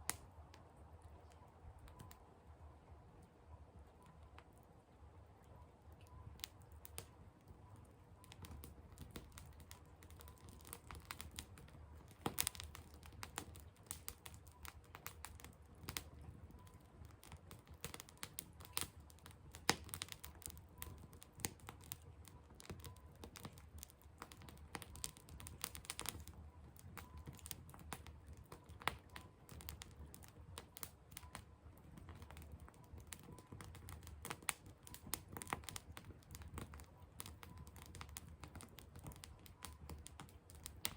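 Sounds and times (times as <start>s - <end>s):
firewood crackling and popping: 0.0s - 2.3s, 3.2s - 40.9s.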